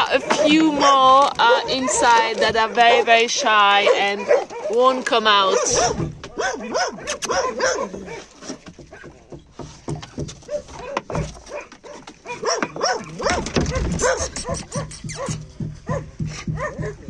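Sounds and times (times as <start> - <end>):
dogs barking and yipping: 0.0 - 17.0.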